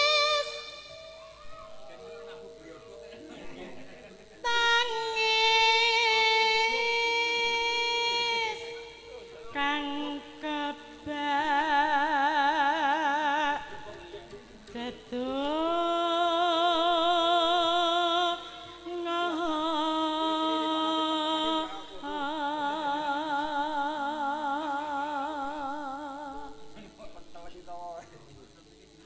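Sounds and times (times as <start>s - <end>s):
woman singing with vibrato: 0.0s - 1.8s, 4.4s - 14.1s, 14.7s - 26.8s.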